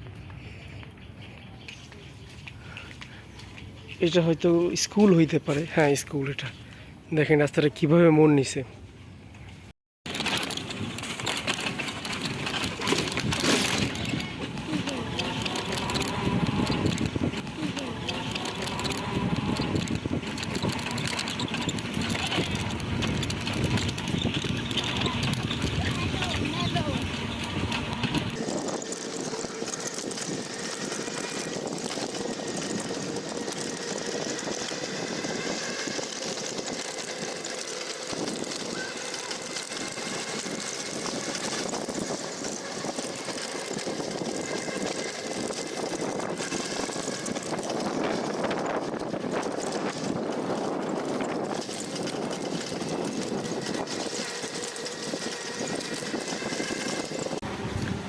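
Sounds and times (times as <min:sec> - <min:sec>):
small motor vehicle droning: 0:10.1 - 0:58.0.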